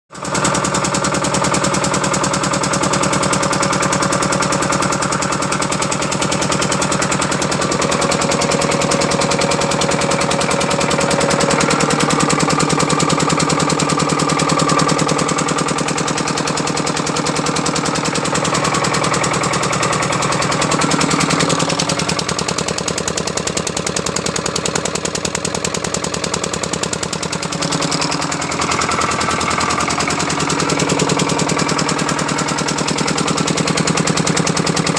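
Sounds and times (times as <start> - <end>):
generator engine running: 0.1 - 34.9.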